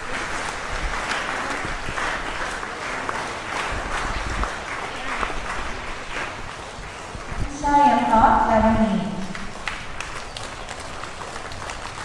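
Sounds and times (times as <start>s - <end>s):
audience applauding: 0.0s - 7.5s, 9.2s - 12.0s.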